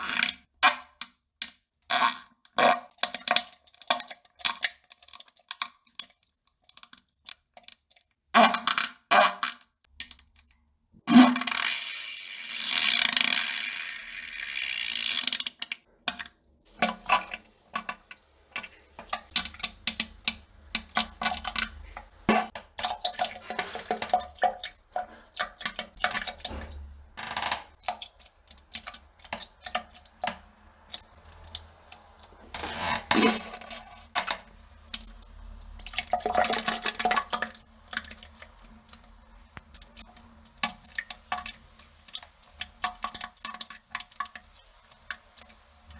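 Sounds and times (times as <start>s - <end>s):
wet splashes in toilet water: 2.3s - 8.3s, 12.7s - 33.4s, 34.4s - 45.9s.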